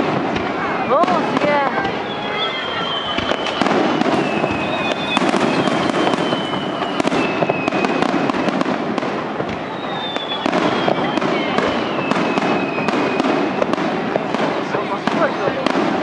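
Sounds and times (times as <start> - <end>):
firework bangs and crackles: 0.0 - 16.0
hiss of sparkling fireworks: 0.0 - 16.0.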